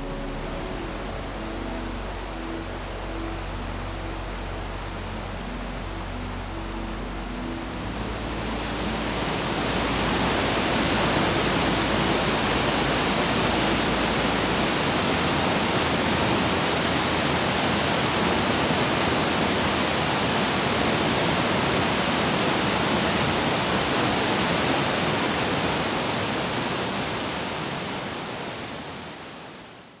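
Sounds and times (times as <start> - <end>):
waterfall rushing: 0.0 - 29.8.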